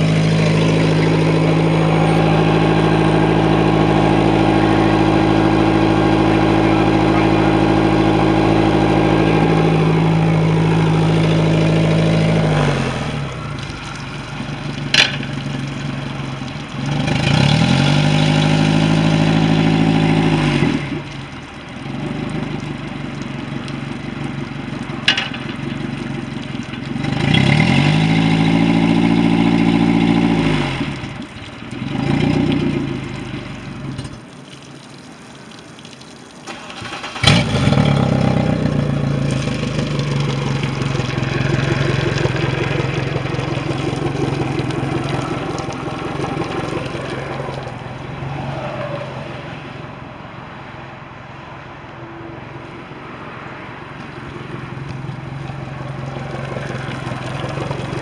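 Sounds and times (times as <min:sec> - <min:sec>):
outboard motor revving: 0:00.0 - 0:34.4, 0:36.5 - 0:49.4, 0:54.0 - 0:58.0.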